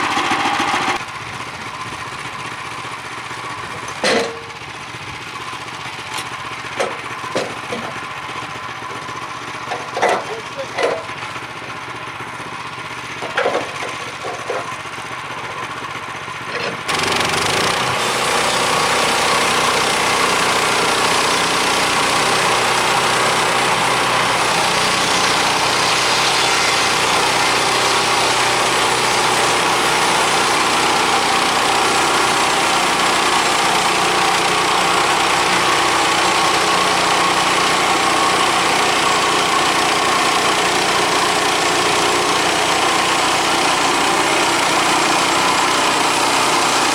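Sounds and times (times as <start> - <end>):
gasoline engine idling and revving: 0.0 - 46.9.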